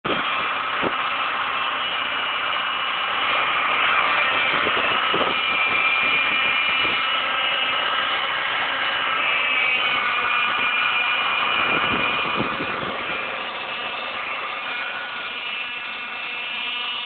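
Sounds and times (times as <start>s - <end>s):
car engine running: 0.1s - 17.0s
high-pitched whistle: 0.1s - 17.0s.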